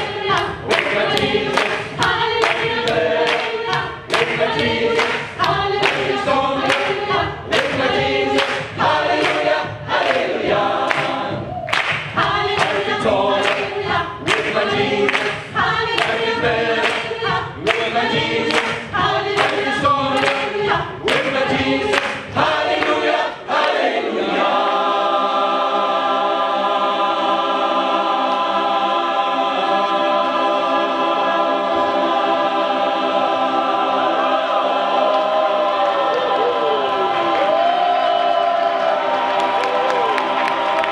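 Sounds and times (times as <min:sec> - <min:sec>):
choir singing a cappella: 0:00.0 - 0:40.9.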